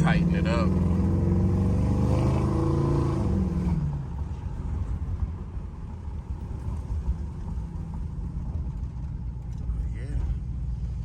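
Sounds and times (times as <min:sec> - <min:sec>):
car engine and exhaust running: 0:00.0 - 0:11.0.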